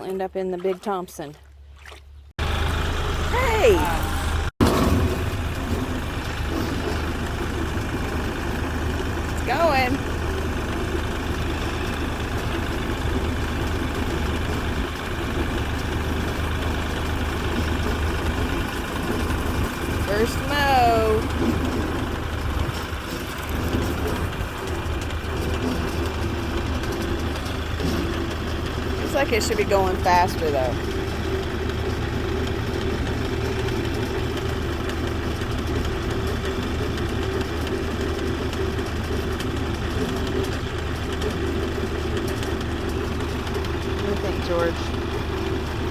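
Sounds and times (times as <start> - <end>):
tractor engine droning: 2.1 - 45.9.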